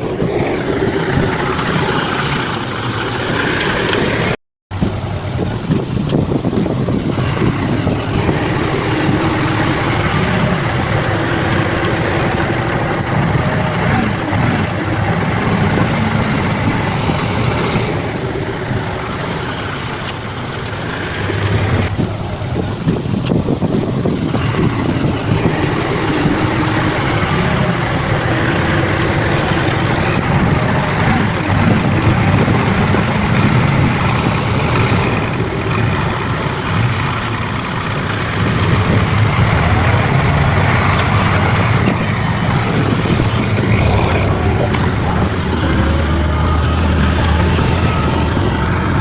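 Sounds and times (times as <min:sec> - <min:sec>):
bulldozer diesel engine under load: 0:00.0 - 0:49.0.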